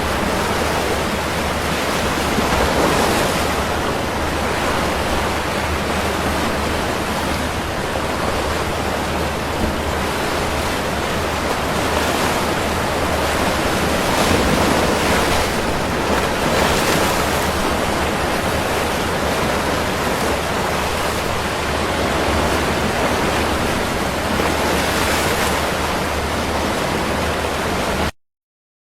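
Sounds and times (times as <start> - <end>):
ocean waves breaking: 0.0 - 28.1.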